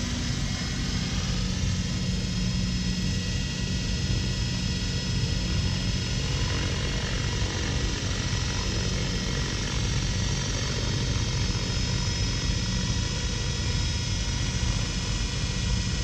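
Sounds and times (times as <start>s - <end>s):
model helicopter humming and whining: 0.0s - 16.0s.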